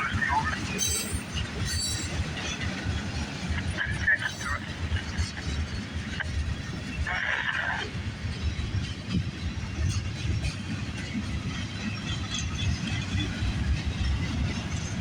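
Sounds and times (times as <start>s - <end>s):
freight train rumbling and rattling: 0.0s - 15.0s.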